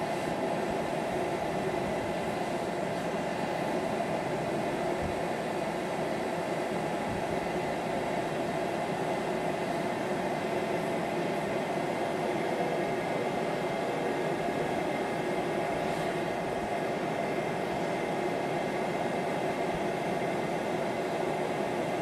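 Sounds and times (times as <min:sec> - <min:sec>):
blower rushing air: 0:00.0 - 0:22.0.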